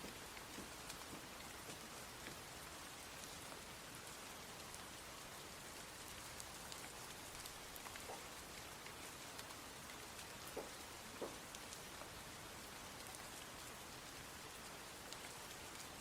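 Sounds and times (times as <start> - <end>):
raindrops ticking: 0.0 - 16.0.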